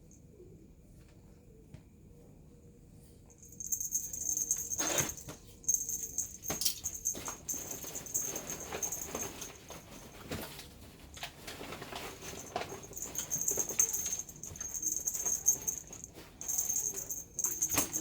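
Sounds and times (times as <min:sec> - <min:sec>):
kittens pattering and scratching: 0:03.4 - 0:18.0.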